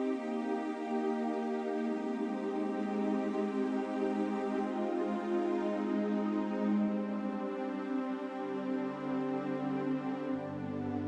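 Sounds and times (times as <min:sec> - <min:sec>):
soft ambient music: 0:00.0 - 0:11.0.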